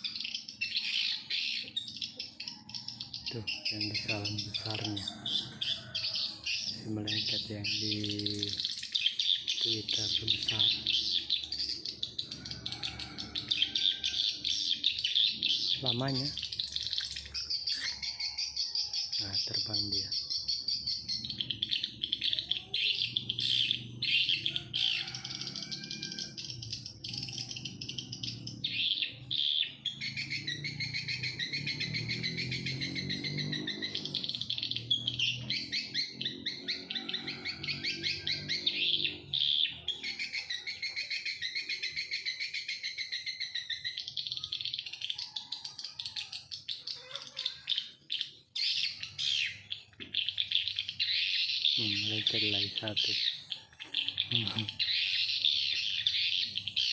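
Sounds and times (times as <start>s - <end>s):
small birds chirping chorus: 0.0s - 56.9s.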